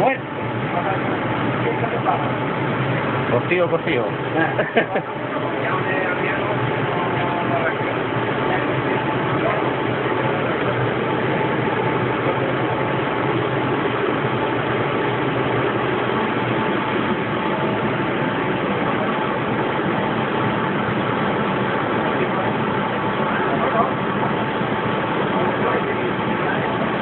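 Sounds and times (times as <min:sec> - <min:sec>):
faint steady whine: 0:00.0 - 0:27.0
subway train rumble and hiss: 0:00.0 - 0:27.0.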